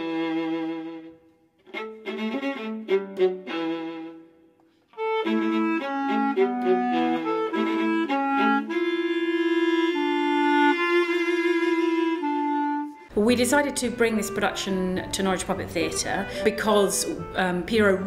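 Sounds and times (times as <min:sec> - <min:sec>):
violin melody: 0:00.0 - 0:18.0.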